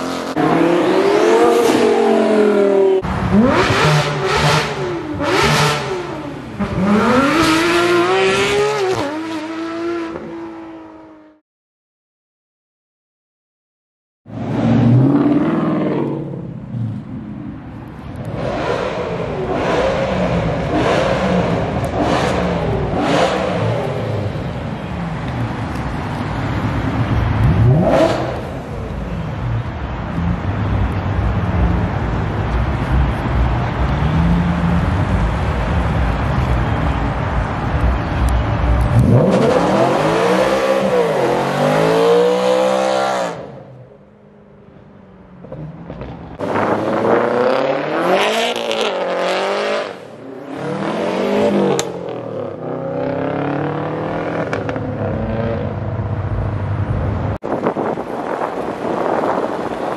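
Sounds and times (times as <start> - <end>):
car engines revving: 0.0 - 11.4, 14.3 - 44.0, 44.7 - 59.9.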